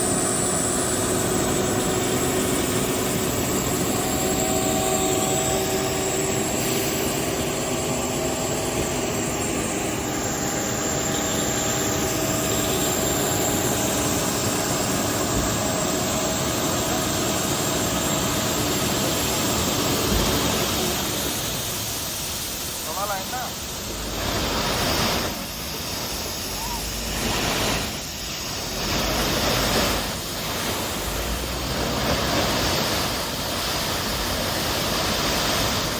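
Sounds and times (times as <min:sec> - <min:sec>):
thin high whine: 0:00.0 - 0:34.2
machinery engine drone: 0:00.0 - 0:35.9.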